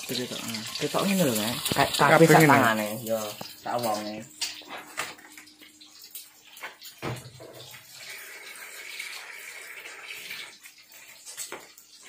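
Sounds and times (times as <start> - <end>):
egg sizzling in oil: 0.0 - 12.0.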